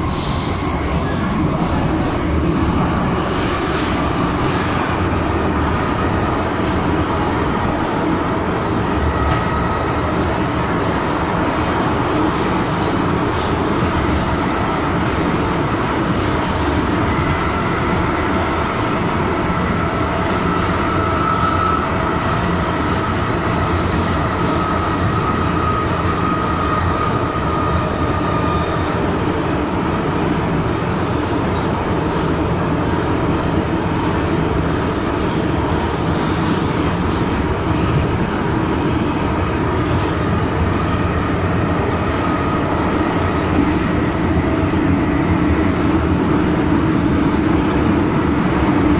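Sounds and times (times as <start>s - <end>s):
train wheels rumbling in tunnel: 0.0s - 48.9s.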